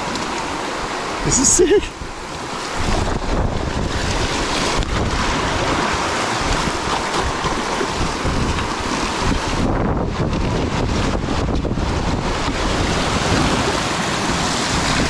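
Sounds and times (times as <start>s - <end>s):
river water rushing and splashing: 0.0s - 15.0s
wind buffeting microphone: 0.0s - 15.0s.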